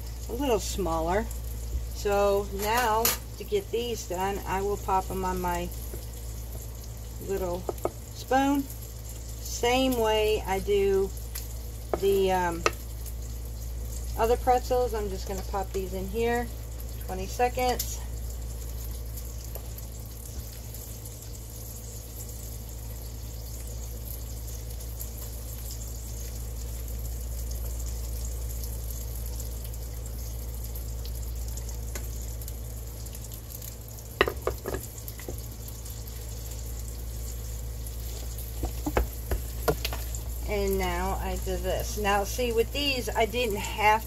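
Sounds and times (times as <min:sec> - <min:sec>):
stovetop cooking hiss: 0:00.0 - 0:44.0.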